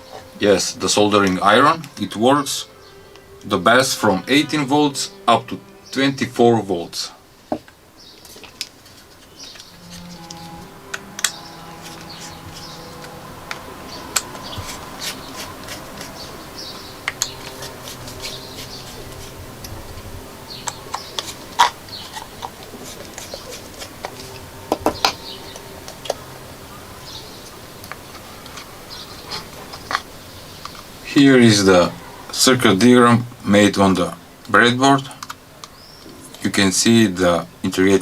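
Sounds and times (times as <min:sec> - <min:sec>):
soft steady tones: 0:00.0 - 0:38.0.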